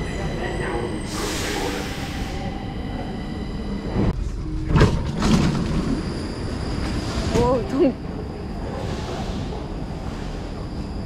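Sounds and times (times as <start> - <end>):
metro train low rumble: 0.0 - 11.0.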